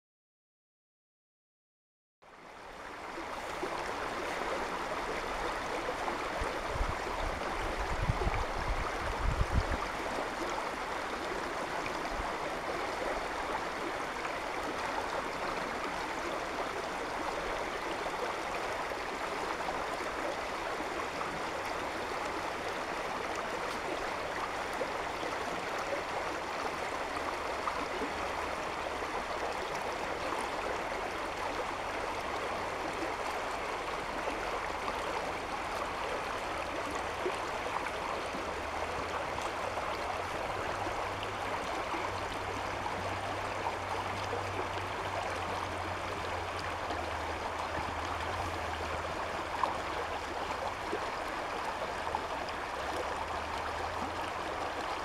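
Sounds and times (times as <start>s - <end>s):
brook babbling over stones: 2.2s - 55.0s.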